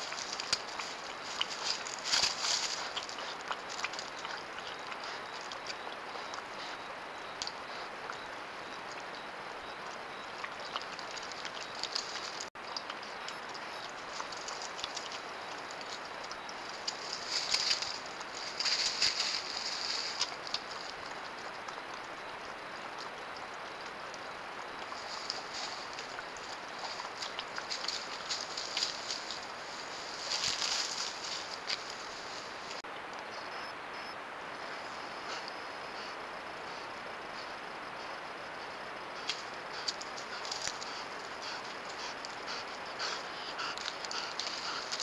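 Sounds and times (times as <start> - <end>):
animals lapping water: 0.0 - 32.9, 34.6 - 45.0
steady hiss: 0.0 - 45.0.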